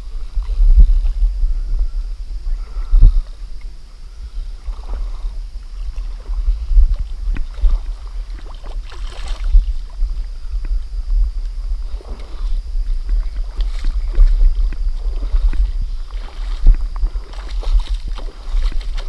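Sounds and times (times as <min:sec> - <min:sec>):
river water lapping and splashing: 0:00.0 - 0:19.0
wind rumbling on microphone: 0:00.0 - 0:19.0.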